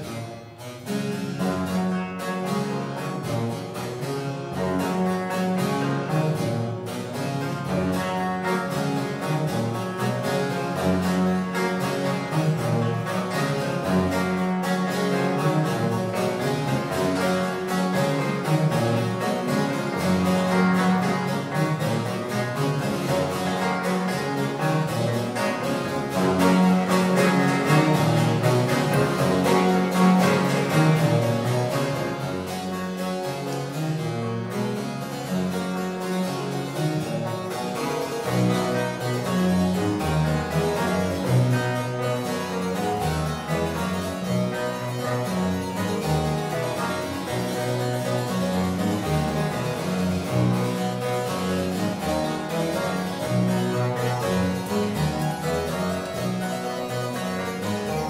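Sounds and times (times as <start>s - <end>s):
baroque chamber trio playing: 0.0s - 58.0s
harpsichord: 0.0s - 58.0s.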